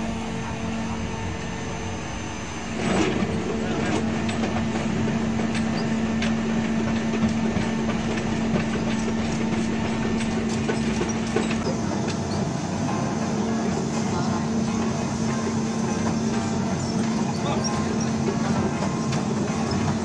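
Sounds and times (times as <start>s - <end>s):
heavy machinery humming: 0.0s - 20.0s.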